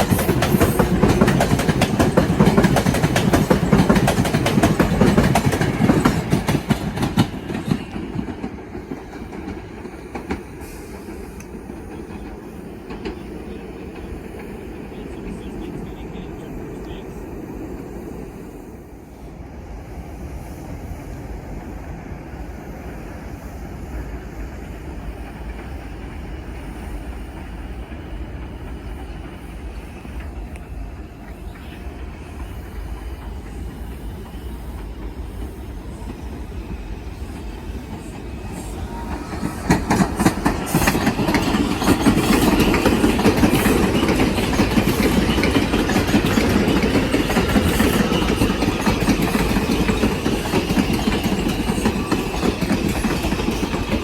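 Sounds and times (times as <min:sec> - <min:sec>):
train wheels clattering over rail joints: 0:00.0 - 0:14.6, 0:24.8 - 0:54.0
subway train rumbling: 0:00.0 - 0:54.0.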